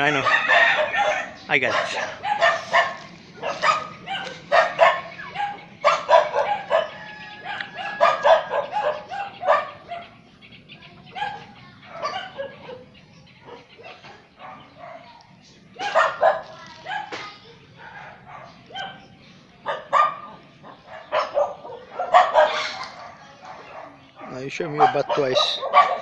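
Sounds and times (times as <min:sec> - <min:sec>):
dog barking: 0:00.0 - 0:10.2, 0:11.1 - 0:26.0.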